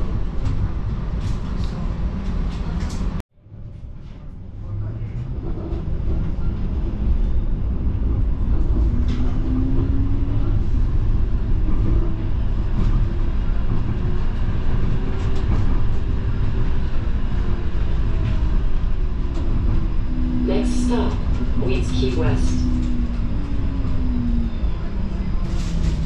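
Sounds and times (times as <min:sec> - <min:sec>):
streetcar wheels rumbling on rails: 0:00.0 - 0:26.0.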